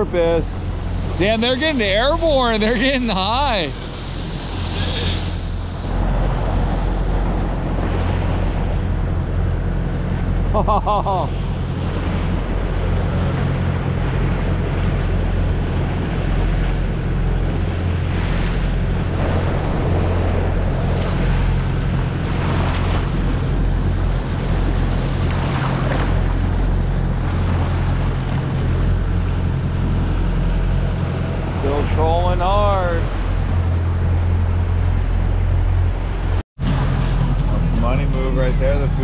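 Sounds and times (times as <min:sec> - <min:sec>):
wind buffeting microphone: 0:00.0 - 0:10.5, 0:11.4 - 0:36.4
waves splashing against bow: 0:00.0 - 0:37.1
boat engine drone: 0:00.0 - 0:39.0
water rushing along hull: 0:00.0 - 0:39.0.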